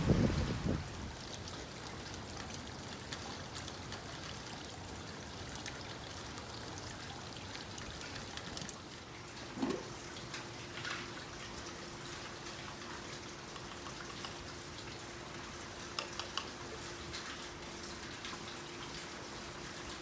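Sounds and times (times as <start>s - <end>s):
water patter: 0.0s - 20.0s.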